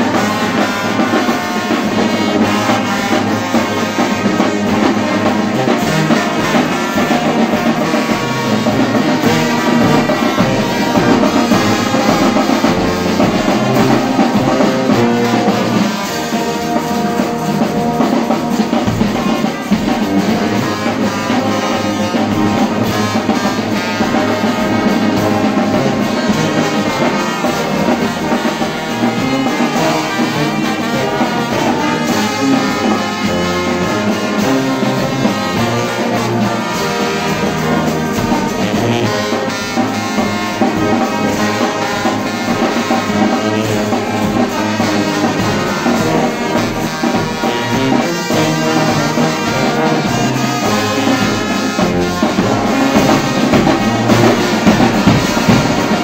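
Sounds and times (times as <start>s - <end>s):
bass drum and cymbals: 0.0s - 56.0s
brass band playing a hymn: 0.0s - 56.0s.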